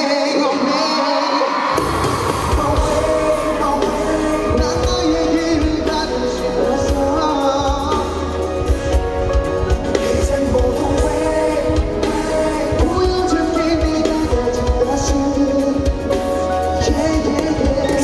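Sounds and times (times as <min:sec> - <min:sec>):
live pop music: 0:00.0 - 0:18.0
person singing: 0:00.0 - 0:18.0
heavy bass and drum beat: 0:01.8 - 0:18.0.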